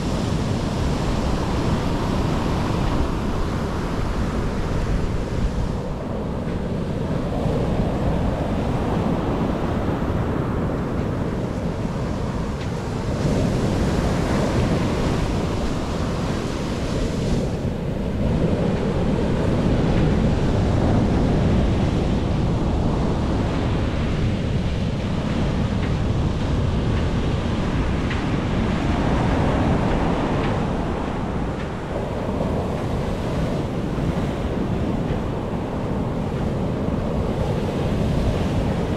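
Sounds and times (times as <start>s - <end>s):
surf washing onto beach: 0.0s - 38.9s
wind rumbling on microphone: 0.0s - 38.9s.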